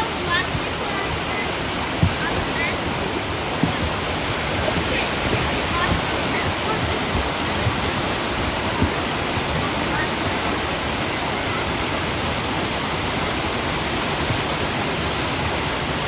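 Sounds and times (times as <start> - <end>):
water pouring over waterfall: 0.0 - 16.0.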